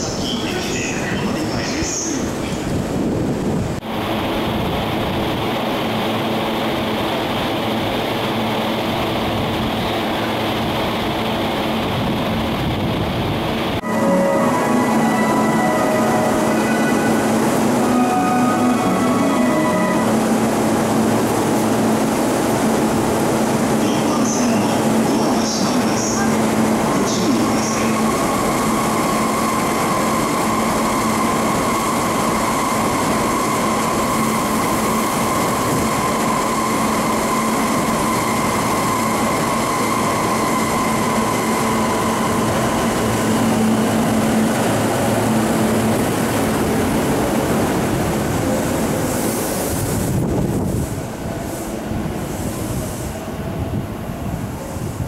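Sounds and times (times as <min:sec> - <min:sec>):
electric train hum and whine: 0:00.0 - 0:55.0
rolling rail noise: 0:00.0 - 0:55.0.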